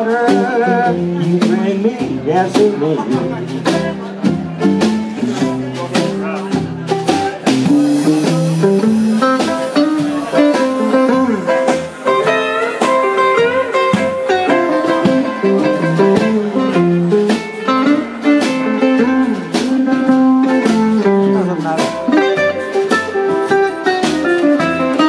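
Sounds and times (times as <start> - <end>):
guitar picking quick notes: 0.0 - 25.0
live blues band playing: 0.0 - 25.0
steady bass line: 0.0 - 25.0.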